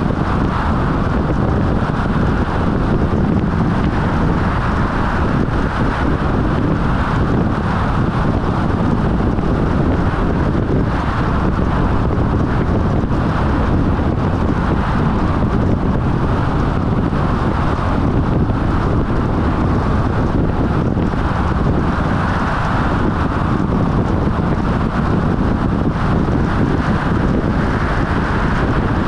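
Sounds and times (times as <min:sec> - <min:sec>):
vehicle road noise: 0:00.0 - 0:29.0
wind rumbling on microphone: 0:00.0 - 0:29.0.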